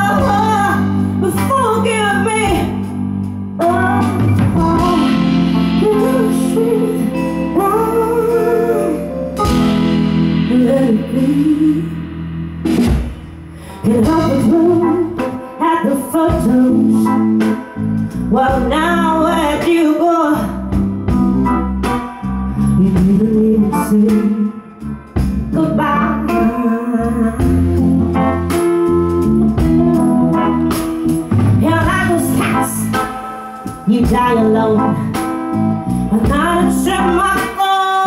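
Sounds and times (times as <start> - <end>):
woman singing into a microphone: 0.0 - 12.2, 13.6 - 20.8, 22.5 - 28.1, 29.5 - 30.7, 31.6 - 38.0
low instrumental backing: 0.0 - 15.6, 16.4 - 37.8
electric guitar: 0.0 - 38.0.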